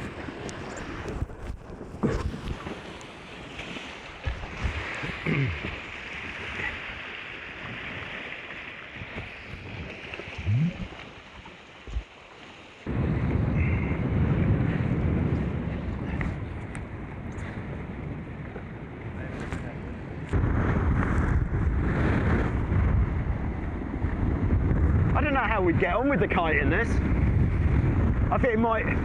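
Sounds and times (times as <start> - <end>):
wind buffeting microphone: 0.0 - 12.1, 12.8 - 29.0
wind and water rushing: 0.0 - 29.0.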